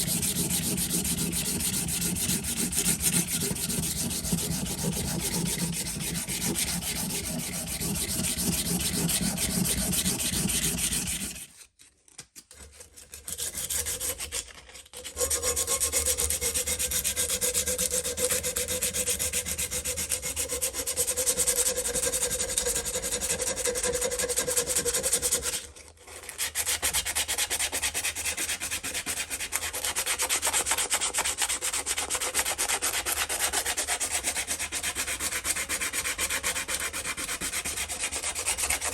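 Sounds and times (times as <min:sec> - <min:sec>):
sanding rasp on metal: 0:00.0 - 0:11.6, 0:12.8 - 0:38.9.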